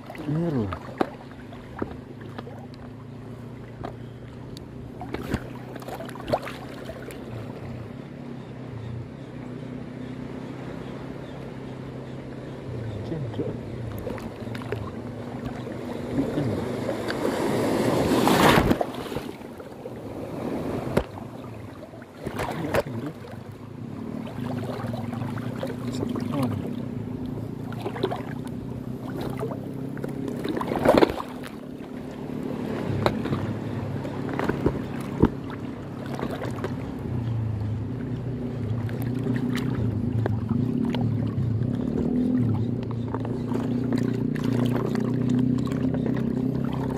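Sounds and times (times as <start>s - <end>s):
small waves lapping: 0.0s - 46.9s.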